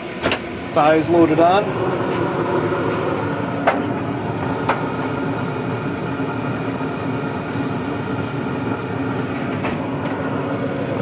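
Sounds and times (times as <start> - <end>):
smoker fan humming: 0.0 - 11.0.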